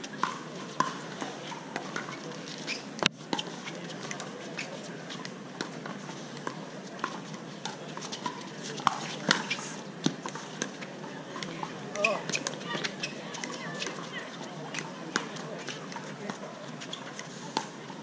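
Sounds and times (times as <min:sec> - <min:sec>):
murmur of voices: 0:00.0 - 0:18.0.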